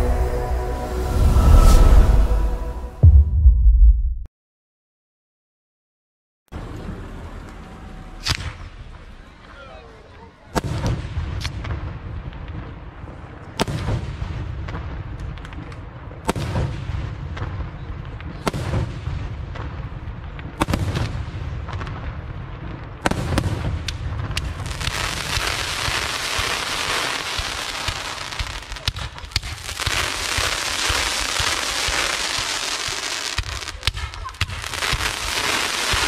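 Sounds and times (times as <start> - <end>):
hiss and crackle of fireworks: 6.6 - 36.0.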